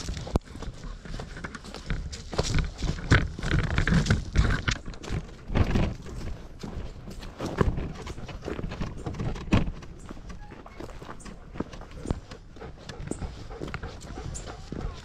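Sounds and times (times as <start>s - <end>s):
footsteps on dirt: 0.0s - 15.0s.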